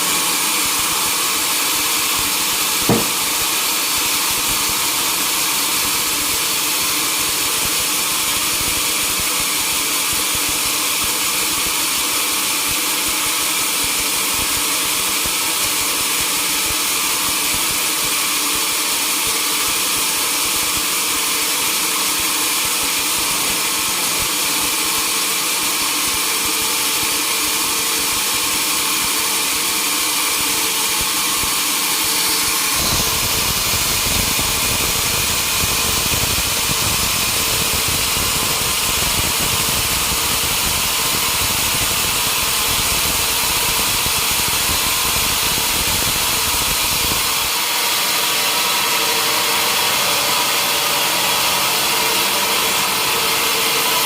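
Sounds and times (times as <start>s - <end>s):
sawmill machinery hissing: 0.0s - 13.6s, 14.3s - 54.0s.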